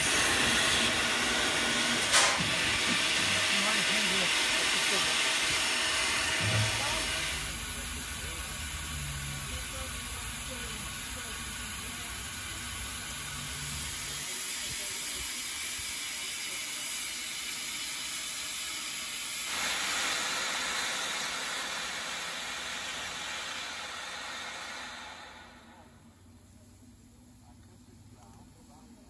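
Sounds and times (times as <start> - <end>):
steam locomotive hissing: 0.0 - 27.4.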